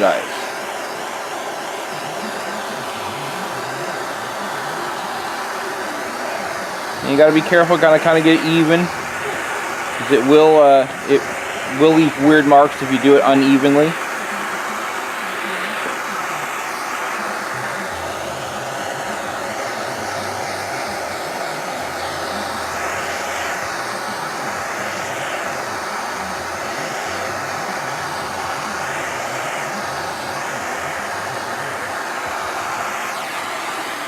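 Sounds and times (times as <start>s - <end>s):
gas torch flame hissing: 0.0s - 34.0s.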